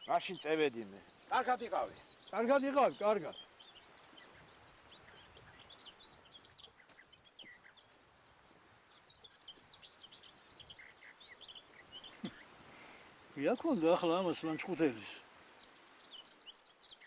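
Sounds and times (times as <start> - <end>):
background hiss: 0.0 - 17.0
small birds chirping: 0.0 - 17.0.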